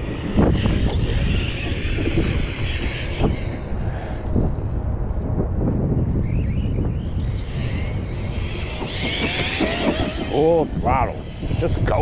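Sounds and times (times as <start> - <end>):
electric motor high whine: 0.0 - 12.0.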